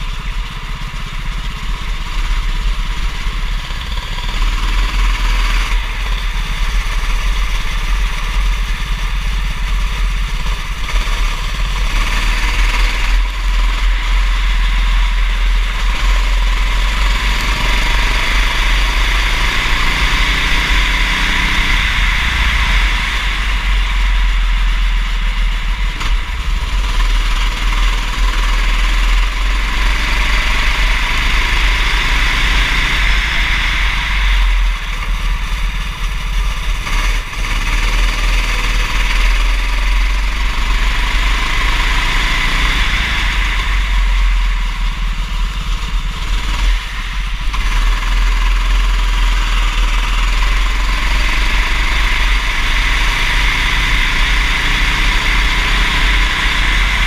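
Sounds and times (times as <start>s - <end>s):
kart engine accelerating: 0.0s - 57.0s.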